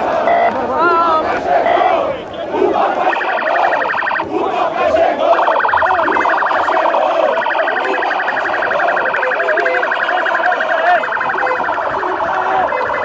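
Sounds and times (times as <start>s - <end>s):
crowd singing and chanting: 0.0s - 13.0s.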